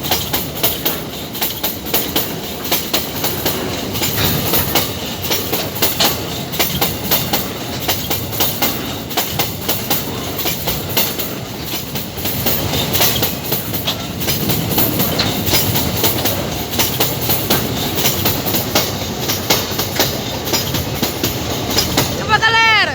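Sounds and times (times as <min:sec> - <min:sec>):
train wheels clattering over rail joints: 0:00.0 - 0:22.2
steady rumble of rolling wagons: 0:00.0 - 0:22.9.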